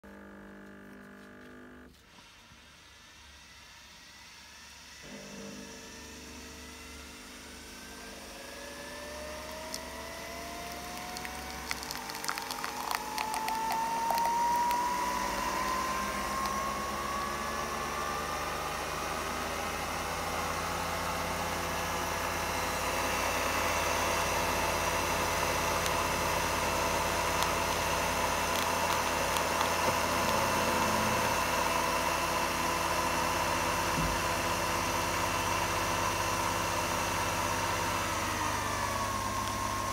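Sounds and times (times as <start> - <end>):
coffee machine motor whine: 0.0 - 39.9
pump hum: 5.0 - 39.9.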